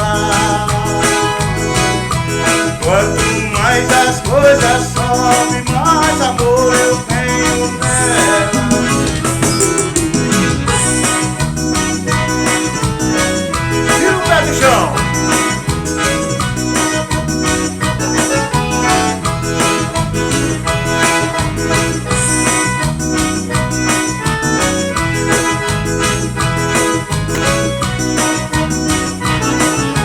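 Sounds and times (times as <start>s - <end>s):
quick percussion beat: 0.0s - 29.6s
keyboard-like melody: 0.0s - 30.0s.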